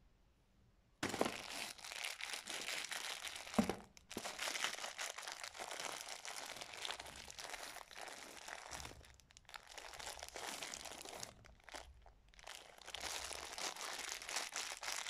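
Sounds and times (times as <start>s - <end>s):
plastic bag crinkling: 1.0s - 15.0s.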